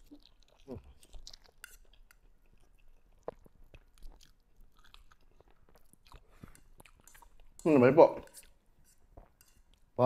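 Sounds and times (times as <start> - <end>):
person chewing noodles: 0.0 - 10.0.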